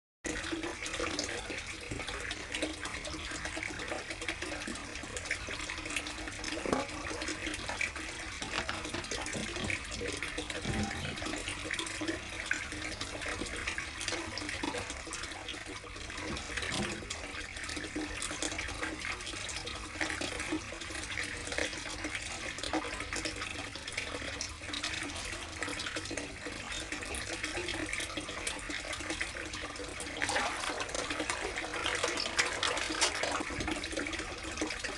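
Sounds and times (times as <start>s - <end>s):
water splashing and trickling: 0.3s - 34.9s.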